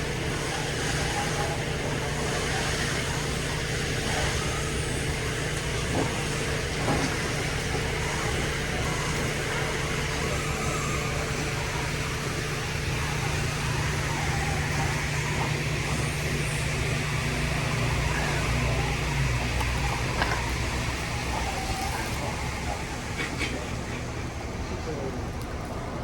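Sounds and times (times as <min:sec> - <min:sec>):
equipment mechanical hum: 0:00.0 - 0:26.0.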